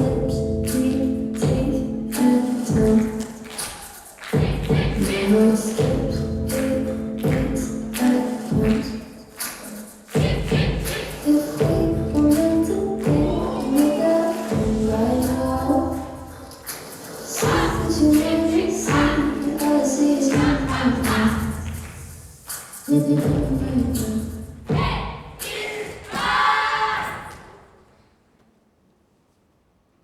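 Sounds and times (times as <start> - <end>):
recorded song with singing: 0.0 - 21.8, 22.5 - 27.4.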